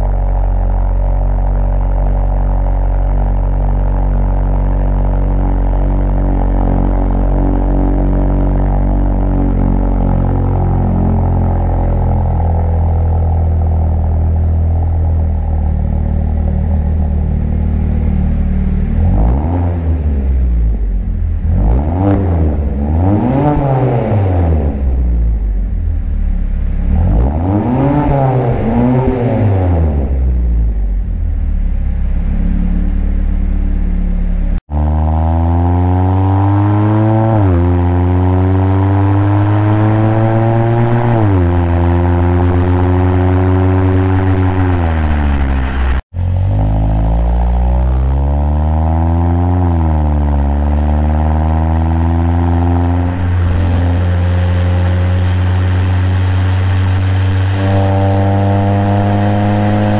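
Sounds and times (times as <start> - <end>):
car engine revving under load: 0.0 - 59.9.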